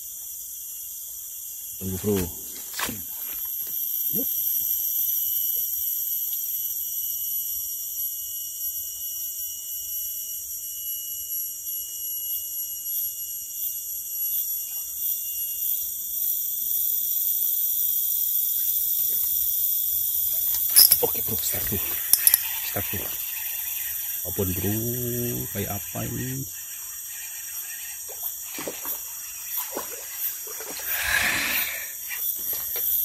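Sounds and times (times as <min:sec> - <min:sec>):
insects droning: 0:00.0 - 0:33.0
thin insect whine: 0:00.0 - 0:33.0.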